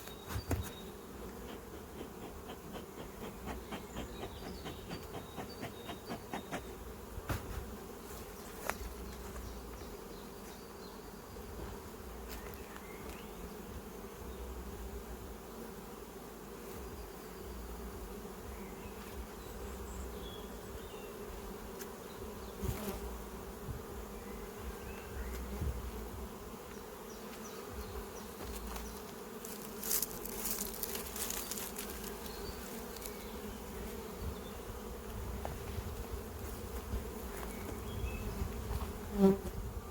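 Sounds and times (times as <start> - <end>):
honeybees buzzing: 0.0 - 39.9.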